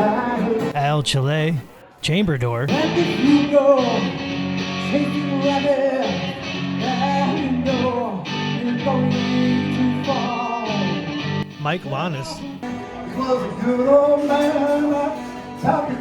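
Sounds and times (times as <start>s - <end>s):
person singing: 0.0s - 0.8s, 2.7s - 11.3s, 12.0s - 16.0s
guitar accompaniment: 0.0s - 1.4s, 2.5s - 16.0s.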